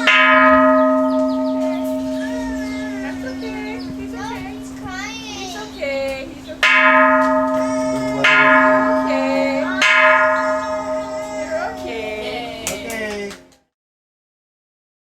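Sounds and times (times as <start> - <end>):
bronze temple bell ringing: 0.0 - 12.7.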